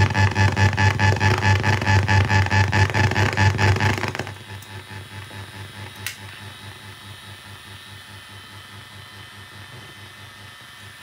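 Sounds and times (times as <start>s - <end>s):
pulsing electrical hum: 0.0s - 11.0s.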